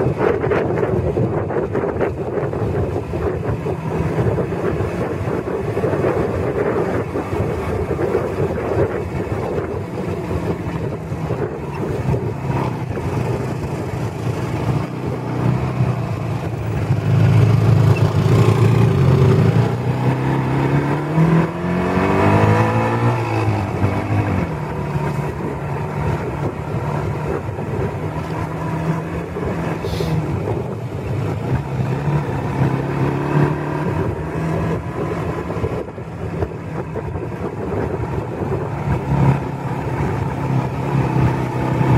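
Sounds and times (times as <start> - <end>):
motorcycle engine accelerating: 0.0 - 41.9
road and wind noise: 0.0 - 41.9.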